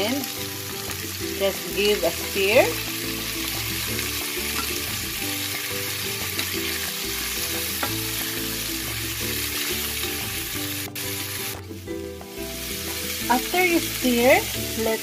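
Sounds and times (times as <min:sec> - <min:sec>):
beans sizzling in oil: 0:00.0 - 0:15.0.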